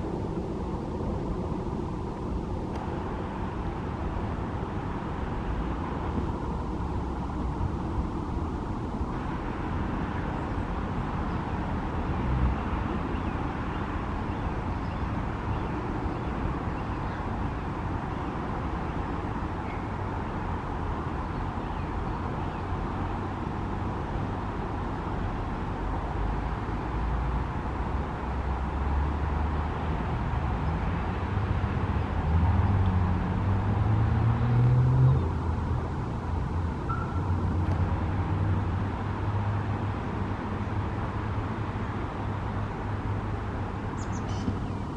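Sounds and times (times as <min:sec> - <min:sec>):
road traffic noise: 0:00.0 - 0:44.9.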